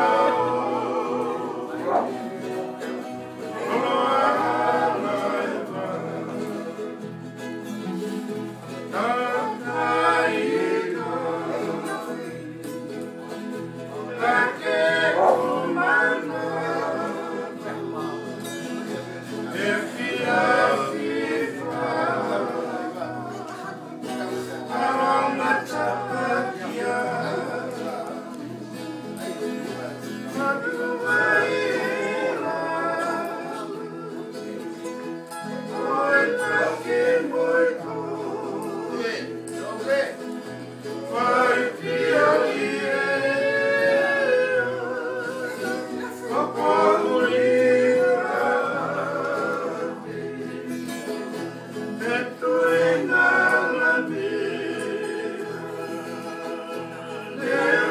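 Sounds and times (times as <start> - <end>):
men singing in harmony: 0.0 - 7.0, 8.7 - 57.9
strummed acoustic guitars: 0.0 - 57.9.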